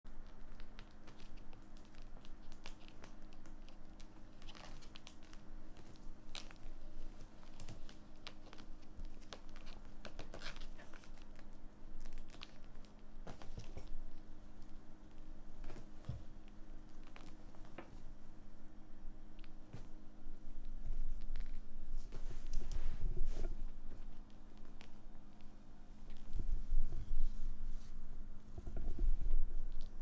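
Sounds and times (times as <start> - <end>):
steady low hum: 0.1 - 30.0.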